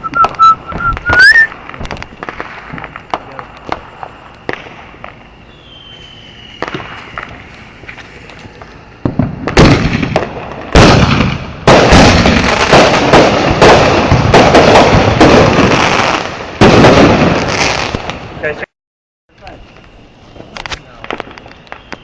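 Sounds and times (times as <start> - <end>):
faint fireworks crackles: 0.0 - 18.7, 19.3 - 22.0
fireworks pops and bangs: 0.0 - 18.7, 19.4 - 22.0.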